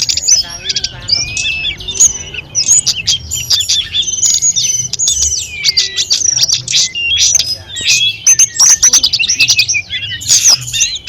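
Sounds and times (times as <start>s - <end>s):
bird singing whistled song: 0.0s - 11.0s.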